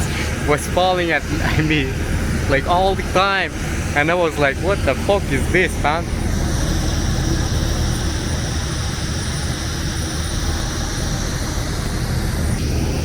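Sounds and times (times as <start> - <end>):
jet airliner hum and hiss: 0.0 - 13.0.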